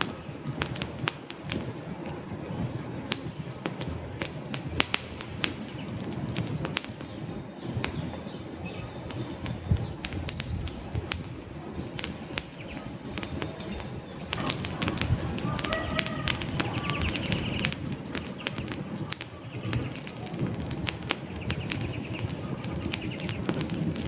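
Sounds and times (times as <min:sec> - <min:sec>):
campfire crackling and popping: 0:00.0 - 0:24.0
flames rustling: 0:00.0 - 0:24.0.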